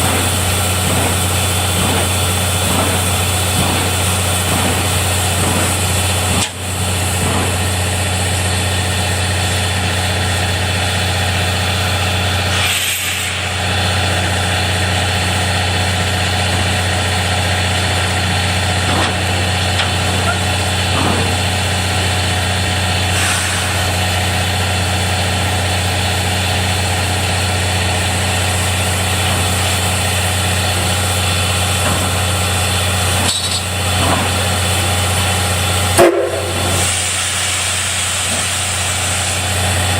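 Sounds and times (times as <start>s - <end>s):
railway engine idling: 0.0s - 39.9s.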